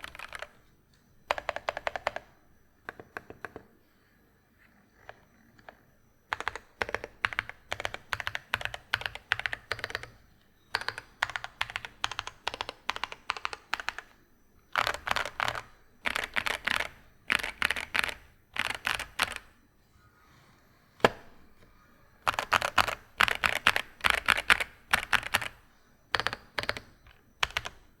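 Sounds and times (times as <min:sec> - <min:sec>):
mechanical keyboard typing: 0:00.0 - 0:00.7, 0:01.3 - 0:03.7, 0:05.0 - 0:19.6, 0:22.2 - 0:28.0.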